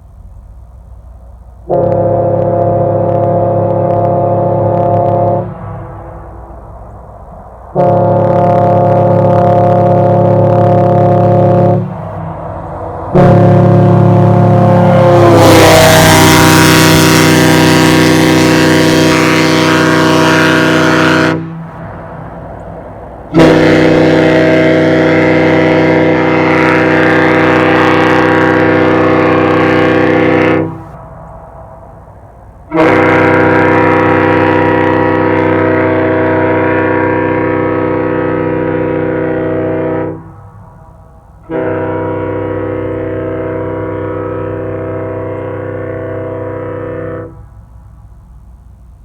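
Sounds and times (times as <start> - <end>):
ship horn blasts: 1.6 - 49.0.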